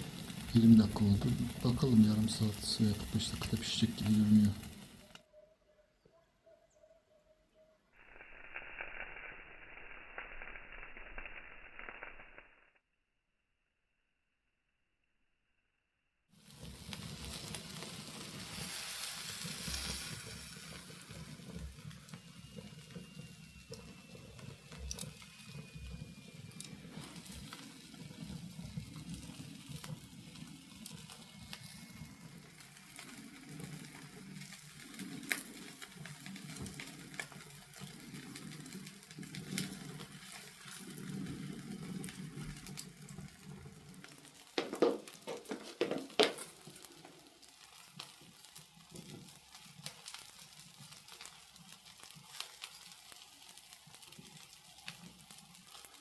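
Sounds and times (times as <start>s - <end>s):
fat hissing and sizzling: 0.0s - 5.3s, 8.0s - 12.7s, 16.3s - 56.0s
wood fire crackling: 0.0s - 5.3s, 8.0s - 12.6s, 16.3s - 56.0s.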